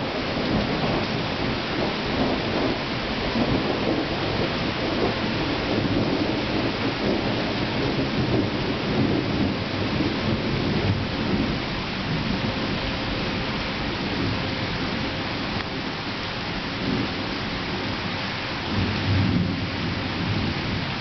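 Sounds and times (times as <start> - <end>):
steady rain: 0.0 - 21.0
thunder rumbling: 0.0 - 21.0.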